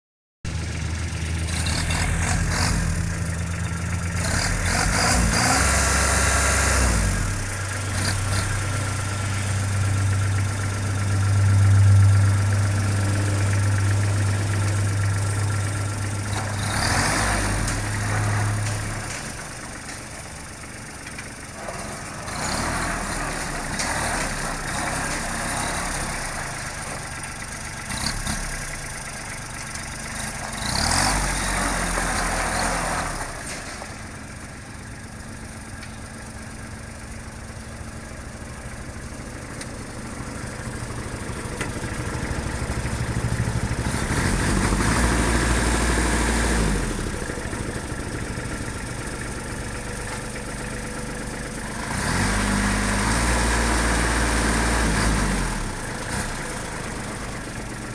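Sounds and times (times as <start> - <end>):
tractor diesel engine idling: 0.5 - 57.9.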